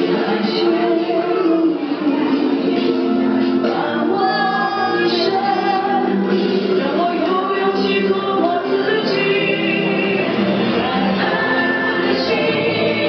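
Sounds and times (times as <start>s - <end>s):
instrumental song accompaniment: 0.0s - 13.0s
young children singing: 0.0s - 13.0s.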